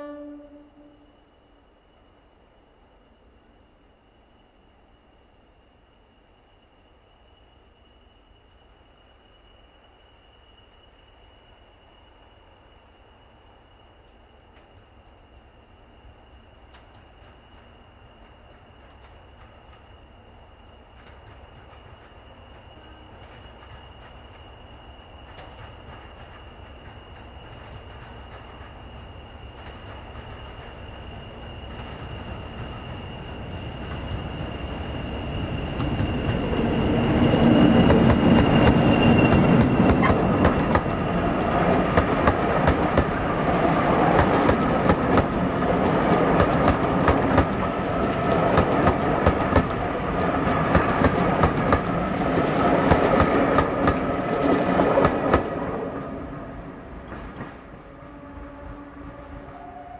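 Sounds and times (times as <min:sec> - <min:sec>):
diesel train engine: 0:00.0 - 0:59.9.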